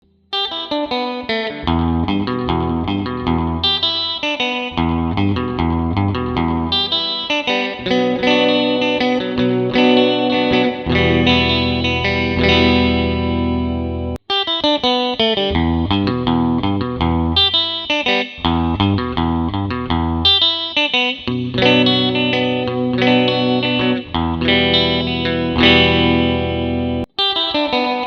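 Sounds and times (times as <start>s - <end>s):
electric guitar with reverb: 0.1s - 28.0s.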